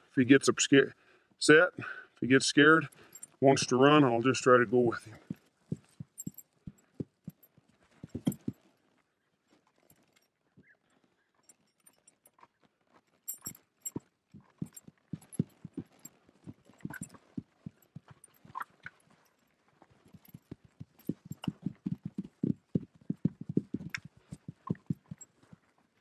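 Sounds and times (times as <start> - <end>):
horse hooves thudding on dirt: 2.8 - 26.0.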